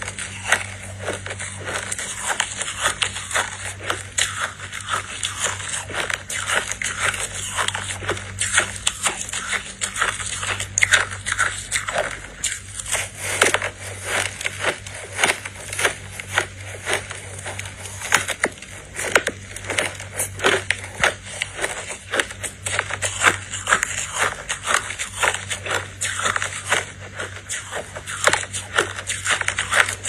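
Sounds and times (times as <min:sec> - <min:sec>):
chewing crushed ice: 0:00.0 - 0:30.0.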